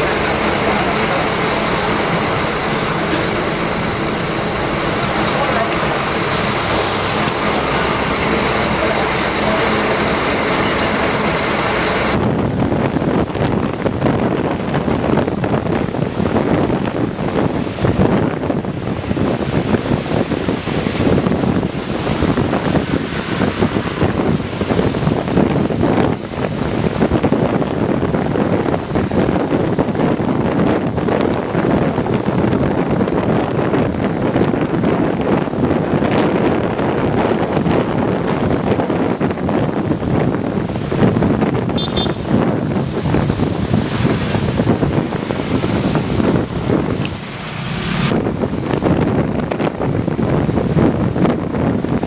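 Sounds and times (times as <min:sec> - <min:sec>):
bus engine rumble: 0:00.0 - 0:52.0
wind buffeting microphone: 0:00.0 - 0:52.0.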